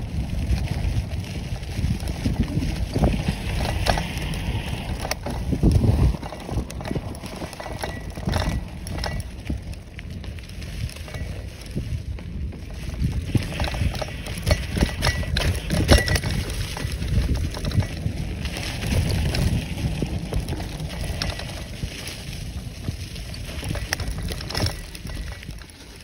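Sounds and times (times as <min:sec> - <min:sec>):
bicycle tyres crunching over leaves: 0:00.0 - 0:26.0
bike knocking and rattling: 0:00.0 - 0:26.0
low uneven rumble: 0:00.0 - 0:26.0.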